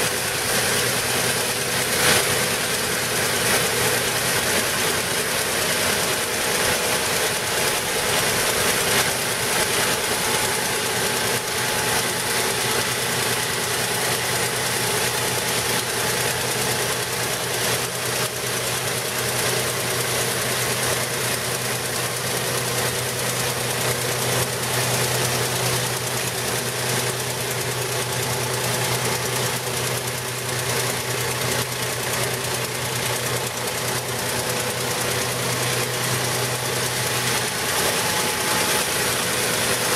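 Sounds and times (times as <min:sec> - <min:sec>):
engine and pump drone: 0:00.0 - 0:39.9.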